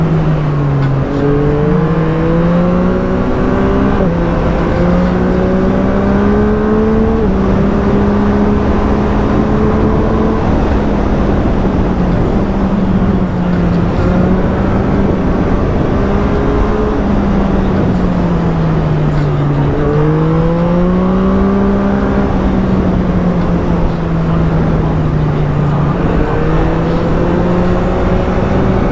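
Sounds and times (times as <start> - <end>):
motorcycle engine accelerating: 0.0 - 28.9
wind noise: 0.0 - 28.9.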